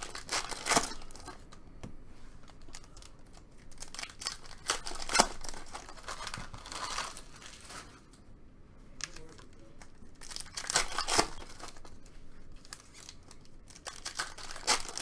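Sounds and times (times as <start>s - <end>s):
foil wrapper crinkling and tearing: 0.0s - 1.6s, 2.4s - 8.1s, 9.0s - 15.0s.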